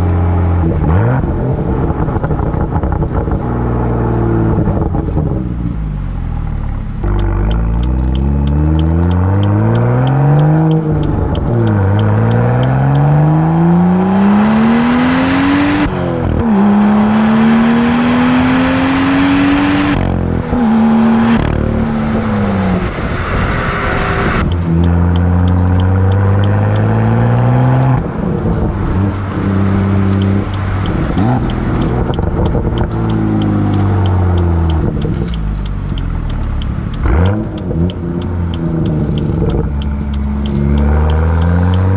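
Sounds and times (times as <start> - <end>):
car engine at full throttle: 0.0 - 41.9.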